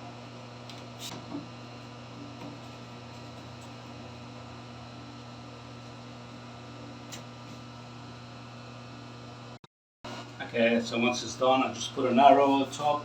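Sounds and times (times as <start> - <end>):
room noise hum and hiss: 0.0 - 13.0.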